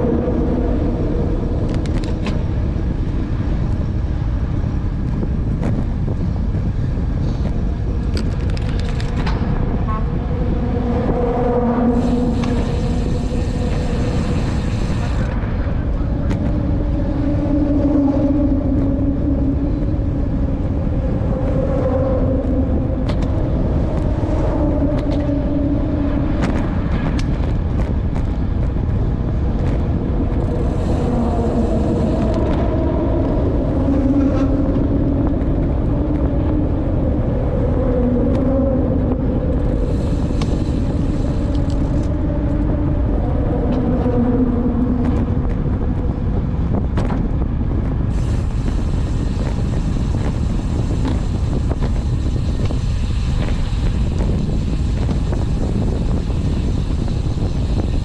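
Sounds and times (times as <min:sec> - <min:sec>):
low hum shifting pitch: 0:00.0 - 0:58.0
wind rumble on microphone: 0:00.0 - 0:58.0.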